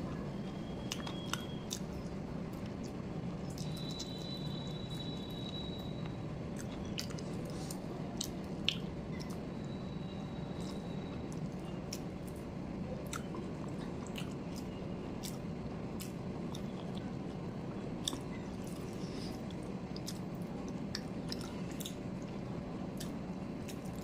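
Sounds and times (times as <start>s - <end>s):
chewing with wet smacks: 0.1s - 9.5s, 10.6s - 24.0s.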